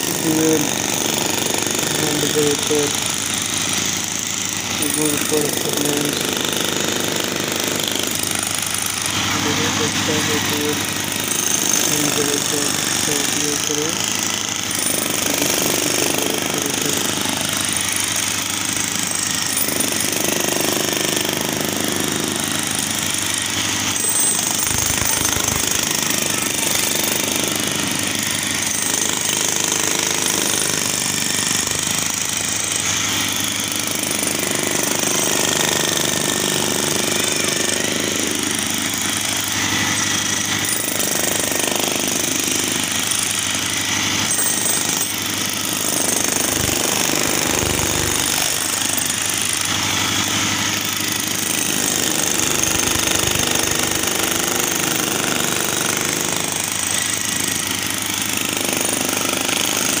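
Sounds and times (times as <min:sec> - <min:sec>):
demolition hammers breaking concrete: 0:00.0 - 1:00.0.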